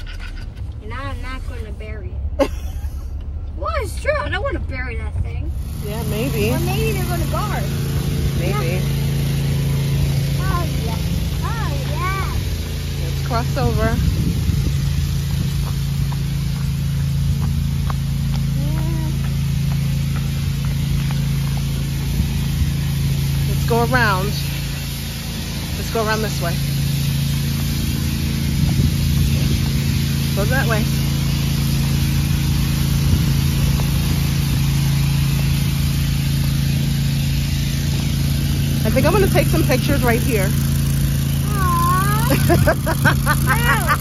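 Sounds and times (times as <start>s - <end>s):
engine hum with hiss: 0.0s - 44.0s.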